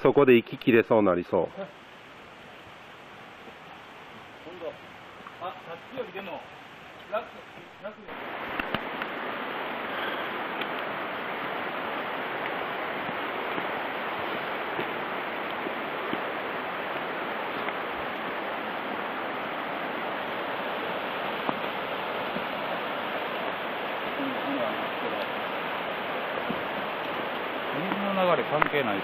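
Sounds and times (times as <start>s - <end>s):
stream rushing: 0.0s - 29.0s.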